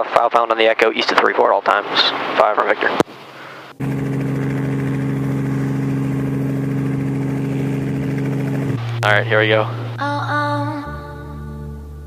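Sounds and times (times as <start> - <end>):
helicopter engine humming: 2.0 - 11.9.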